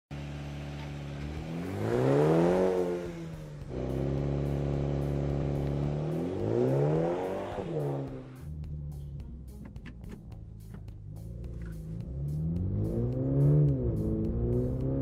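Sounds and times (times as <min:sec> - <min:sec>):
car engine idling: 0:00.1 - 0:15.0
car engine revving: 0:00.1 - 0:15.0.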